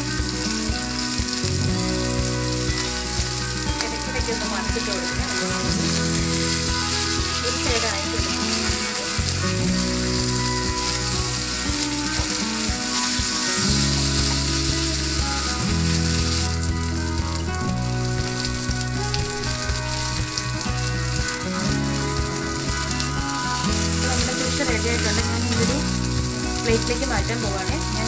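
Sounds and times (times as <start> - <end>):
fish frying in butter: 0.0 - 28.0.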